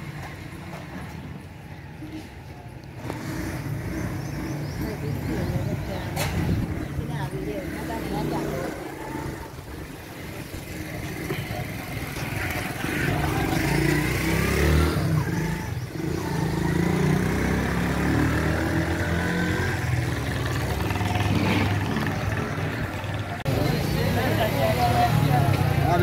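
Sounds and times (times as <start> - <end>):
motorcycle engine revving: 2.8 - 26.0.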